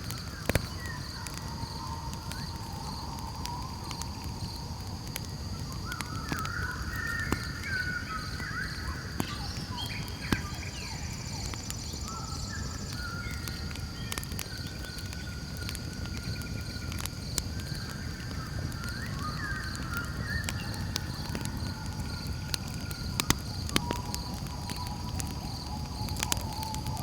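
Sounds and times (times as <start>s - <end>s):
campfire crackling and popping: 0.0s - 27.0s
insects trilling: 0.0s - 27.0s.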